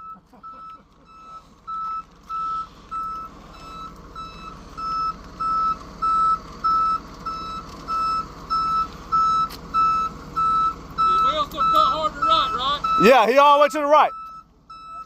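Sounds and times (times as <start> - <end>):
low engine rumble: 0.0 - 15.0
vehicle reversing alarm beeping: 0.0 - 15.0.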